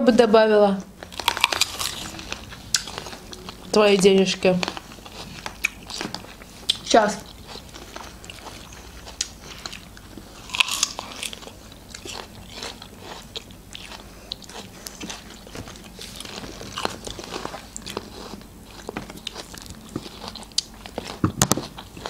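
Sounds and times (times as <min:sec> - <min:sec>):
crunchy bites and chewing: 0:01.0 - 0:03.7, 0:04.6 - 0:22.0.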